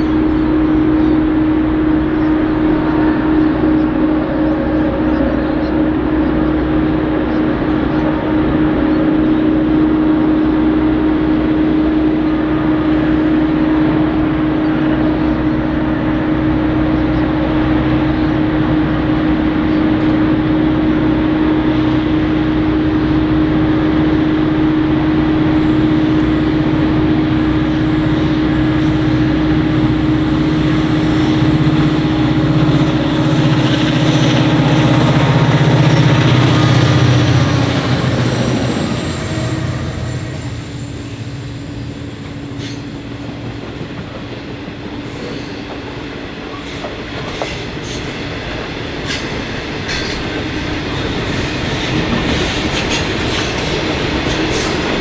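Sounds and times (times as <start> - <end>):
locomotive engine drone: 0.0 - 55.0.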